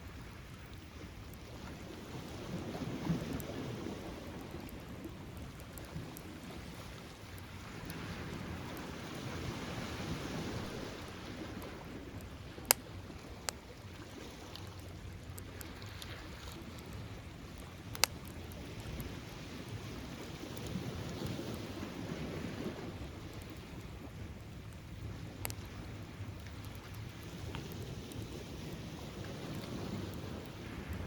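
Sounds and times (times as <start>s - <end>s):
surf washing on beach: 0.0s - 31.0s
bonfire crackling and popping: 0.1s - 31.0s.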